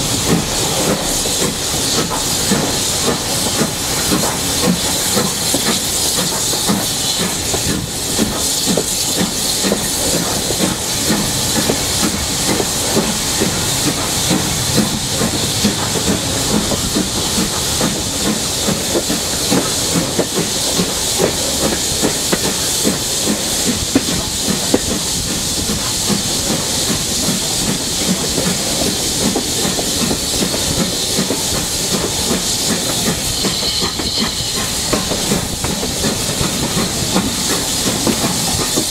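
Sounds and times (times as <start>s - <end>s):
steam hissing: 0.0s - 38.9s
train wheels clattering on rails: 0.0s - 38.9s.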